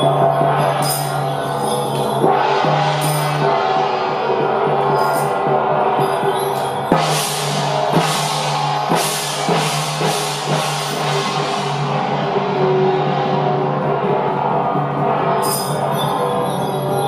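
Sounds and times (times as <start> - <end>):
drum strikes: 0.0 - 16.2
cymbal crashes: 0.0 - 17.0.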